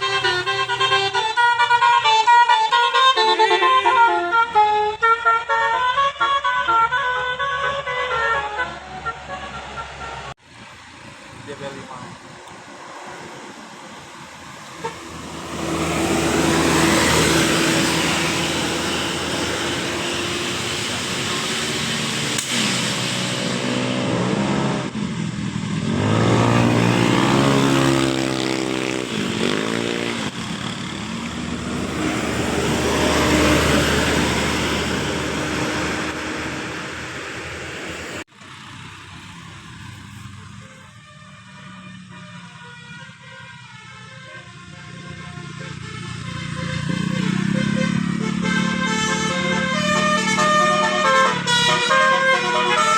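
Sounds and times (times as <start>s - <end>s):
buses driving past: 0.0s - 52.9s.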